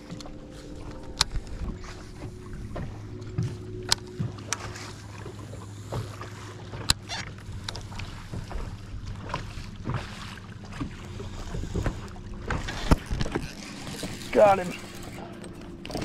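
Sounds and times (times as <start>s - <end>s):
electric trolling motor humming: 0.0s - 16.0s.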